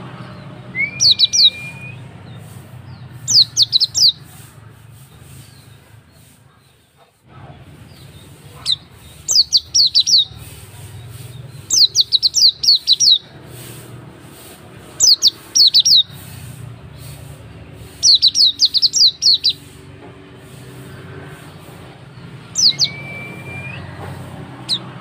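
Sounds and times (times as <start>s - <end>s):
bird high chirps: 0.3s - 6.4s, 7.8s - 19.8s, 21.4s - 25.0s.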